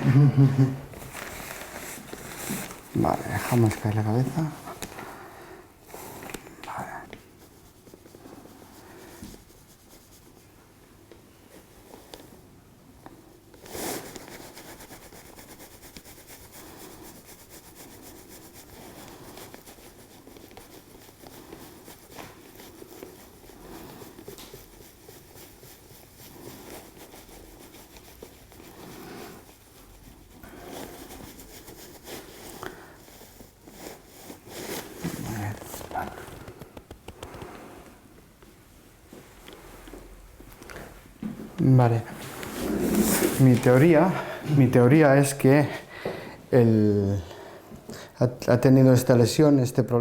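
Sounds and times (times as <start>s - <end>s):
hands rubbing fabric: 0.0s - 12.4s, 13.0s - 49.1s.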